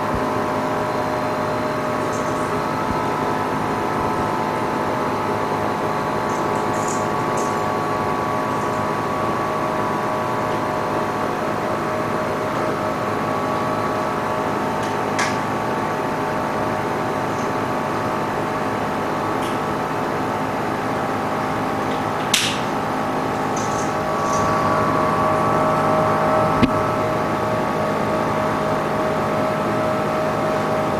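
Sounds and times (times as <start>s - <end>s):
machine humming: 0.0s - 30.9s.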